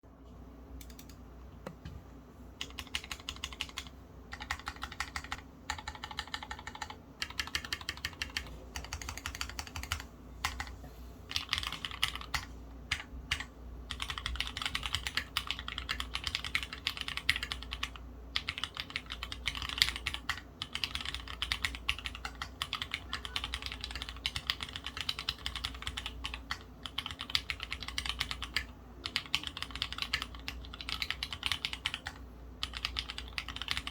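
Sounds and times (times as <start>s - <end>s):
mechanical keyboard typing: 0.8s - 1.2s, 2.6s - 33.9s.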